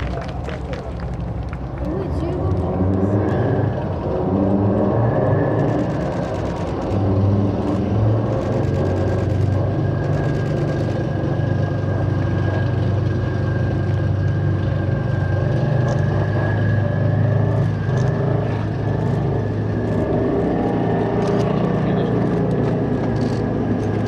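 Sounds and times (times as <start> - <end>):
diesel engine low rumble: 0.0 - 24.0
high whine: 0.0 - 24.0.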